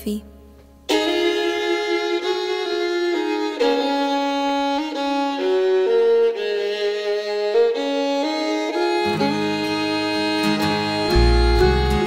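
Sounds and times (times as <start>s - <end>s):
fiddle playing slow melody: 0.9s - 12.0s.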